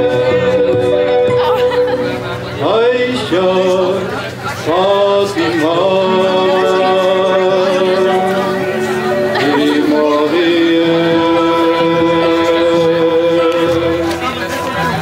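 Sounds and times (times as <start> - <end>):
man singing long held notes: 0.0 - 1.2, 2.5 - 14.4
music: 0.0 - 15.0.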